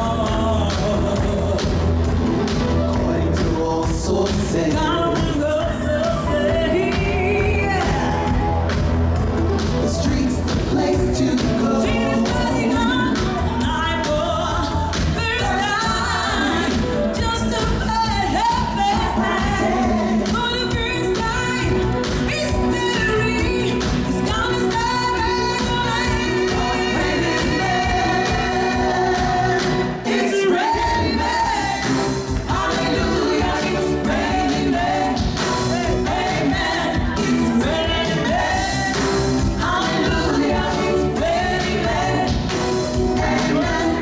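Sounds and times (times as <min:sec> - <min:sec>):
singer's gliding vocal: 0:00.0 - 0:09.0, 0:09.8 - 0:44.0
live pop band playing: 0:00.0 - 0:44.0.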